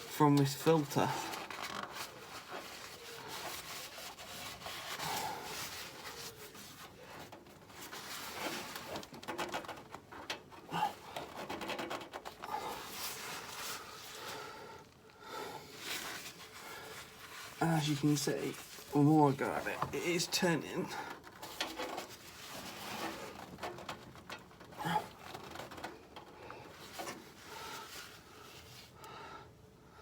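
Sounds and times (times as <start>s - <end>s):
gloved hands twisting oil filter: 0.0s - 29.2s.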